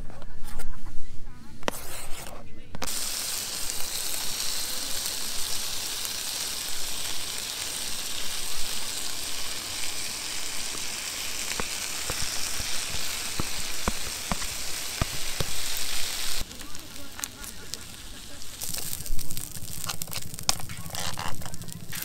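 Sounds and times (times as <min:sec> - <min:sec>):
rice scraped and stirred: 0:01.6 - 0:22.0
meat sizzling in oil: 0:02.8 - 0:22.0.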